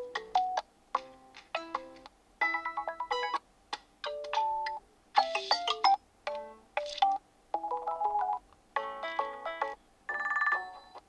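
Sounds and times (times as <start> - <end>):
phone ringtone melodies: 0.0 - 3.4, 4.1 - 11.0.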